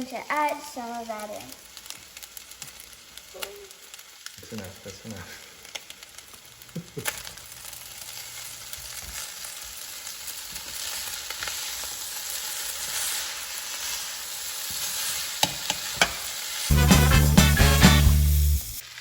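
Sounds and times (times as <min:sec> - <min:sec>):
rice sizzling in a pan: 0:00.0 - 0:19.0.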